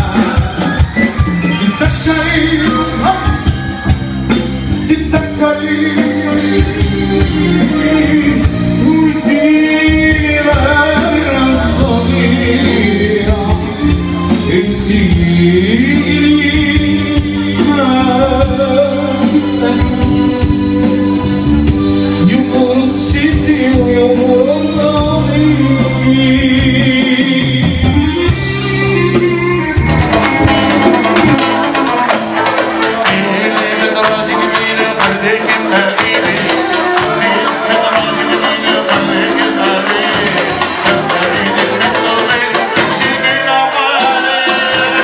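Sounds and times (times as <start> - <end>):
loud music with singing: 0.0 - 45.0
steady bass line: 0.0 - 45.0.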